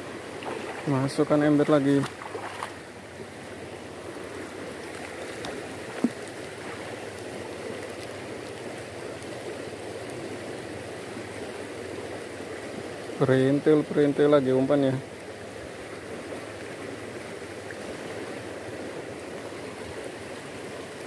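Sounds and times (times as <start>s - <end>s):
fast-flowing stream rushing: 0.0s - 21.0s.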